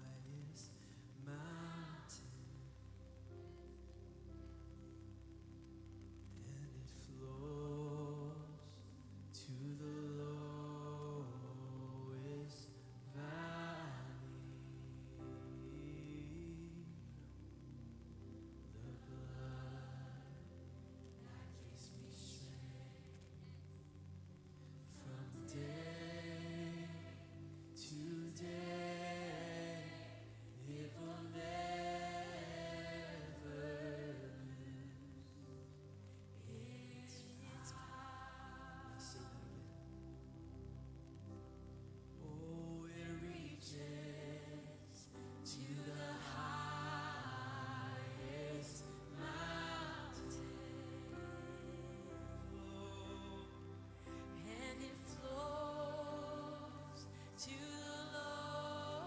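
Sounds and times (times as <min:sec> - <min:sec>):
slow chant-like melody: 0:00.0 - 0:59.0
voices singing worship music: 0:00.0 - 0:59.0.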